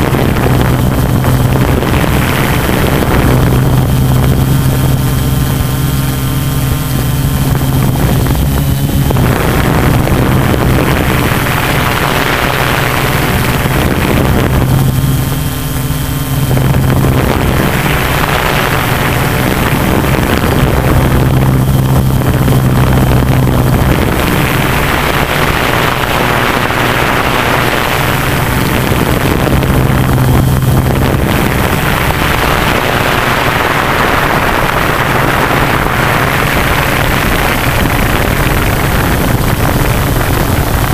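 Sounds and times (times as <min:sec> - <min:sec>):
drone motors humming: 0:00.0 - 0:40.9
wind hiss over microphone: 0:00.0 - 0:40.9.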